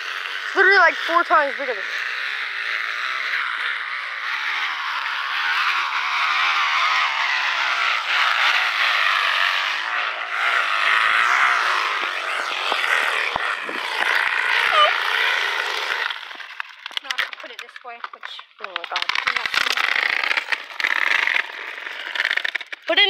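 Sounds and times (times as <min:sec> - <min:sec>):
bottle buzzing on bicycle spokes: 0:00.0 - 0:17.9, 0:18.8 - 0:23.0.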